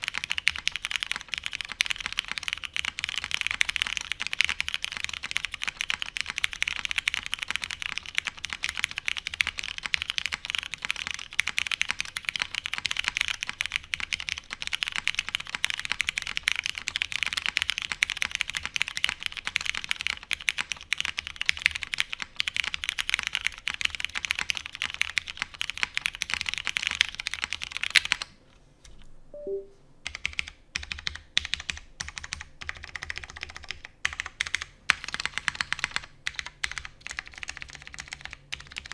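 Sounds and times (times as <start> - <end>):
typing on mechanical keyboard: 0.0 - 28.3, 30.1 - 38.9.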